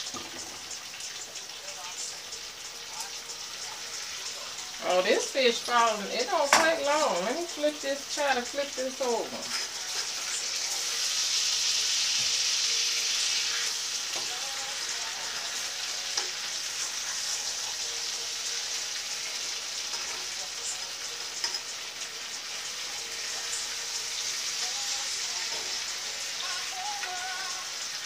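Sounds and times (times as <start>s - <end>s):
fish sizzling in a skillet: 0.0s - 28.0s.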